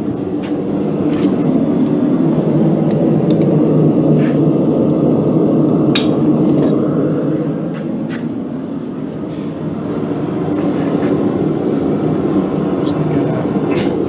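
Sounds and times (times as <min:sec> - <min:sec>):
forge low rumble: 0:00.0 - 0:14.0.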